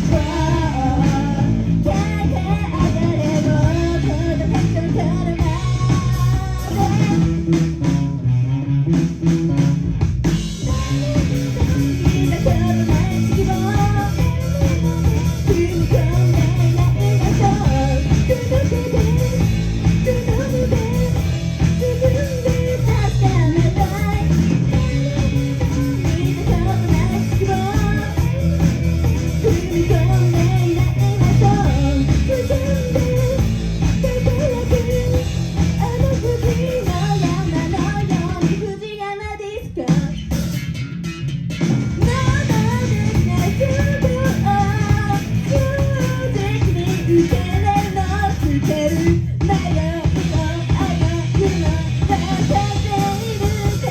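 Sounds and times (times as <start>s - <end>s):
person singing: 0.0s - 8.2s, 10.5s - 40.4s, 42.0s - 53.9s
bass guitar: 0.0s - 53.9s
drums: 0.0s - 53.9s
electric guitar: 0.0s - 53.9s
live rock band playing: 0.0s - 53.9s.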